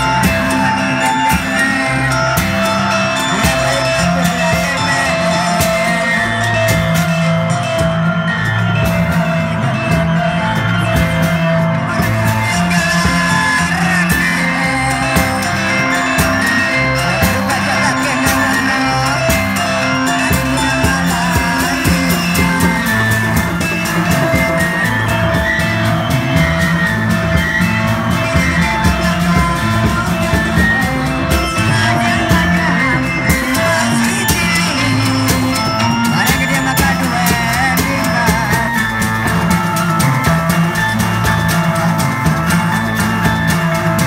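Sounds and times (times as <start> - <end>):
procession music with fast drumbeat: 0.0 - 44.0.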